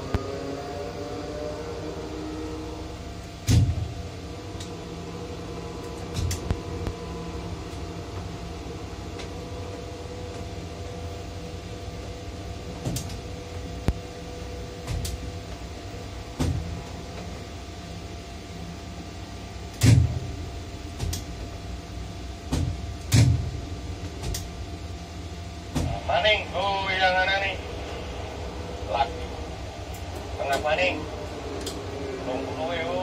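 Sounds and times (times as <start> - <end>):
crane motor hum: 0.0 - 33.0.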